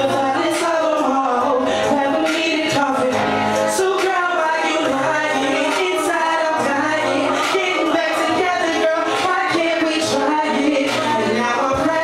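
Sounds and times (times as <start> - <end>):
backing music with bass line: 0.0 - 12.0
man singing into microphone: 0.0 - 12.0.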